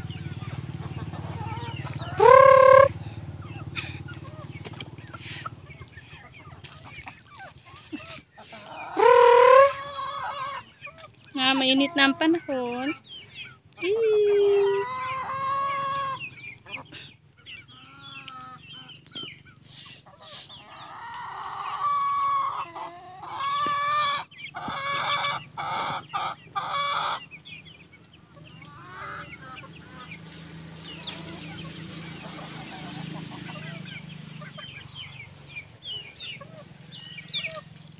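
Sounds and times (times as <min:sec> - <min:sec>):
chickens clucking and calling: 0:00.0 - 0:37.9.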